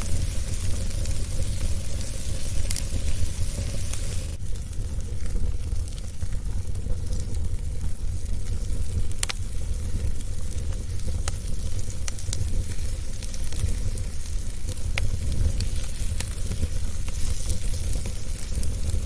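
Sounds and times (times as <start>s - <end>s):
fire crackles and pops: 0.0s - 19.0s
wood fire rumbling and hissing: 0.0s - 19.0s.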